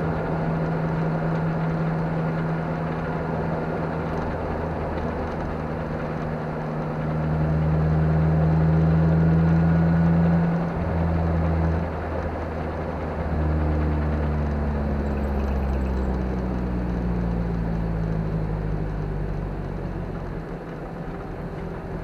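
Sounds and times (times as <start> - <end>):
car engine from inside cabin: 0.0 - 22.0
tyre and road noise: 0.0 - 22.0.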